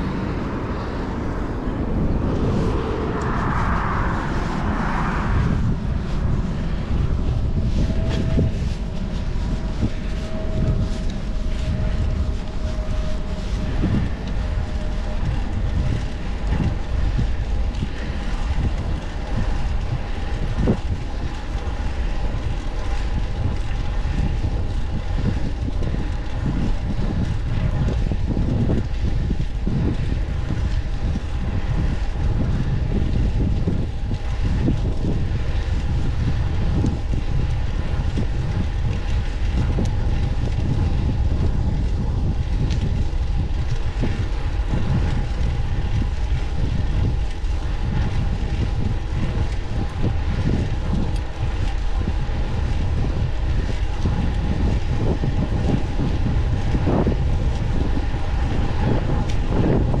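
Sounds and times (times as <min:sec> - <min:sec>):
road noise: 0:00.0 - 1:00.0
wind buffeting microphone: 0:00.0 - 1:00.0.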